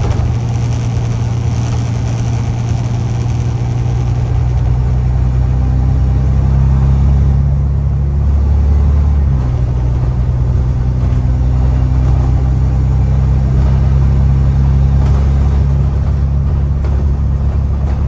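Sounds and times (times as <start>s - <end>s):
bus engine low drone: 0.0s - 18.0s.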